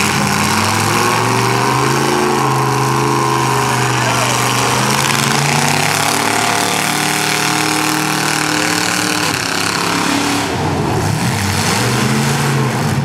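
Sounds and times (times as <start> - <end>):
car engines droning loudly: 0.0 - 13.0.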